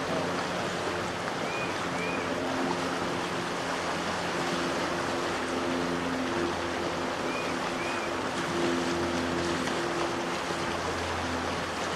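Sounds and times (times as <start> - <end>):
creek rapids rushing: 0.0 - 11.9.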